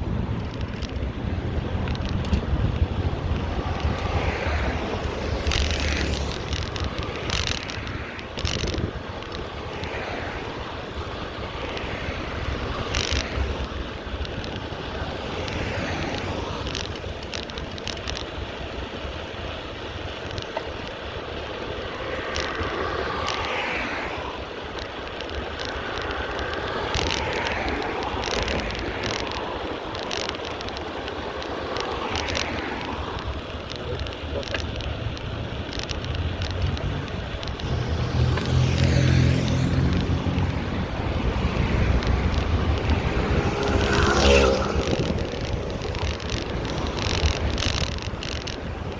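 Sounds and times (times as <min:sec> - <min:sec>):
bicycle clicks and rattles: 0:00.0 - 0:48.9
vehicles passing: 0:00.0 - 0:48.9
wind and traffic rumble: 0:00.0 - 0:48.9.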